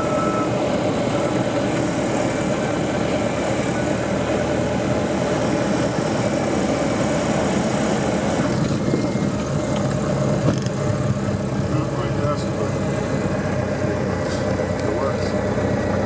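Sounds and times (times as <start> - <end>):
light aircraft engine drone: 0.0 - 16.0.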